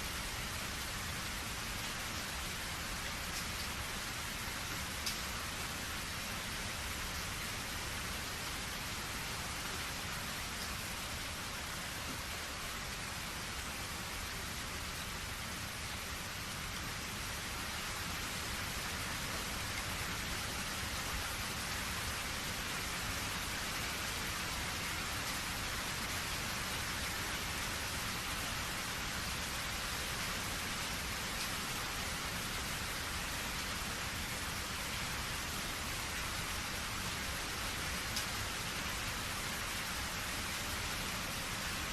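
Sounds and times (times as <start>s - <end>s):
steady rain hiss: 0.0s - 41.9s.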